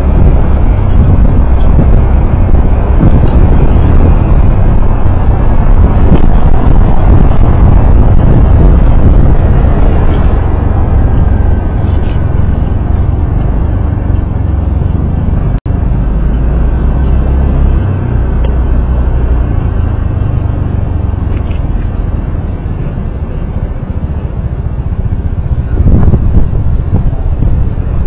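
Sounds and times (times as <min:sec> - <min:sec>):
road vehicle rumbling under way: 0:00.0 - 0:28.0.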